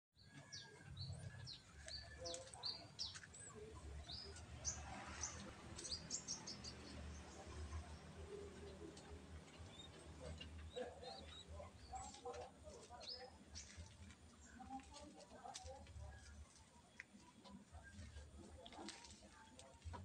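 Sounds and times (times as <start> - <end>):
birds chirping: 0.2 - 20.0.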